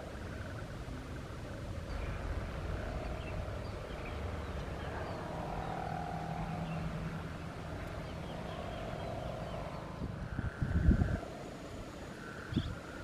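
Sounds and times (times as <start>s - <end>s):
faint held hum: 0.0s - 13.0s
small birds chirping: 0.0s - 13.0s
steady low rumble: 0.0s - 13.0s.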